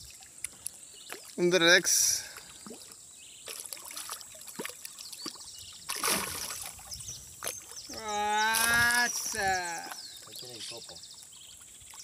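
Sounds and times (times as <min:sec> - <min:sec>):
water sloshing: 0:02.2 - 0:12.0.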